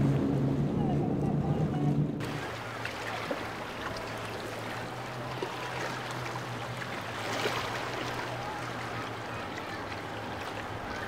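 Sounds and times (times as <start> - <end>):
boat motor hum: 0.0 - 11.0
water rushing and splashing: 0.0 - 11.0.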